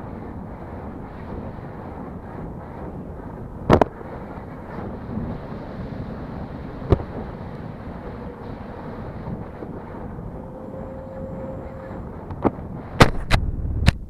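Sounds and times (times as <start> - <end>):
air buffeting microphone: 0.0 - 14.0.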